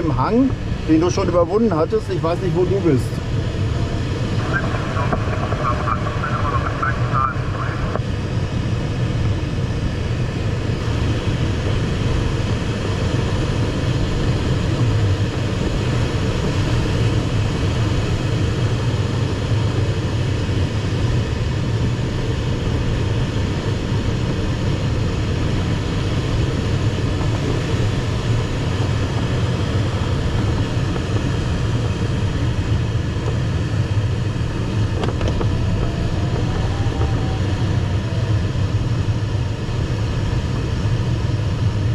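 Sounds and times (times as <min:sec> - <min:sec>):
airflow rushing over cockpit: 0:00.0 - 0:18.0, 0:23.2 - 0:41.9.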